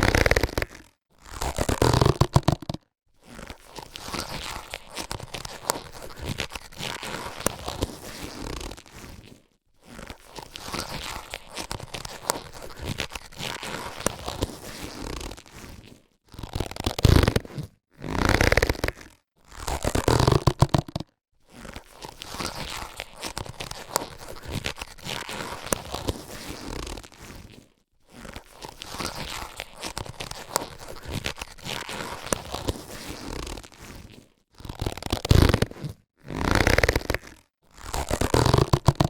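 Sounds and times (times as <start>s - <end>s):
latex gloves crinkling: 0.0s - 39.0s.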